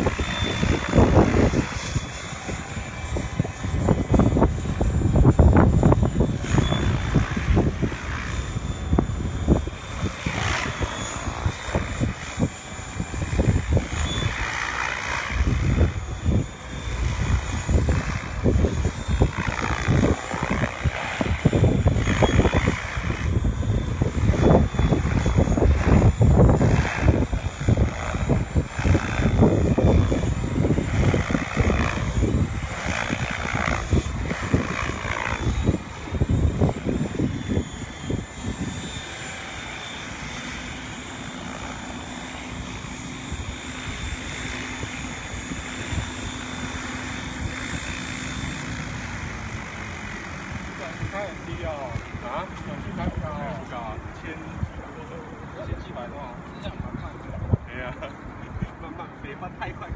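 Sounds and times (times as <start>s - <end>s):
helicopter rotor blades whooshing: 0.0s - 59.9s
wind rumbling on microphone: 0.0s - 59.9s.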